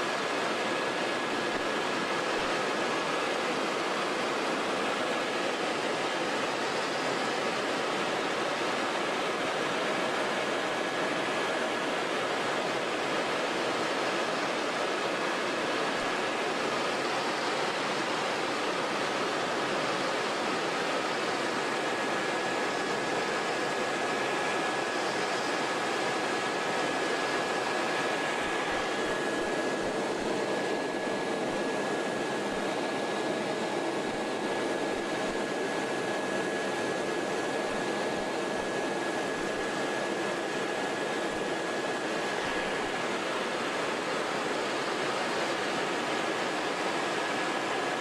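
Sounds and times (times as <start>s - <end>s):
high turbine whine: 0.0s - 48.0s.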